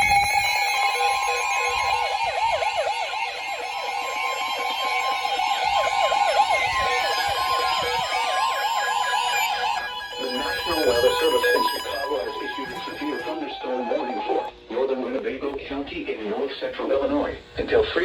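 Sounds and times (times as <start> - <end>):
warbling siren-like alarm: 0.0 - 14.6
steady radio attention tone: 0.0 - 18.0.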